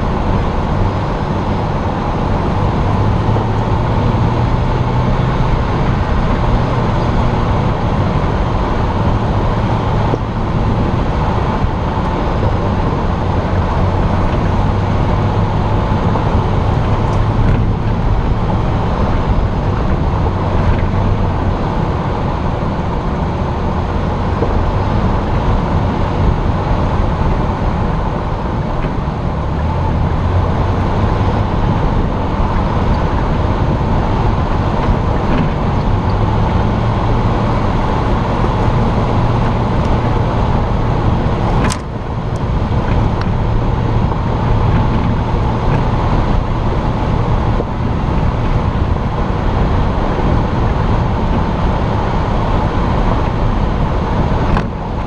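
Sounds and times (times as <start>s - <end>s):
vehicle engine and tyres droning: 0.0s - 55.0s.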